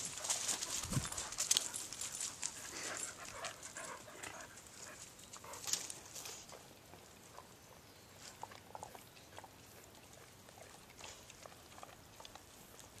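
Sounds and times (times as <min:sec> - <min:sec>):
faint light ticks and rustles: 0:00.0 - 0:13.0.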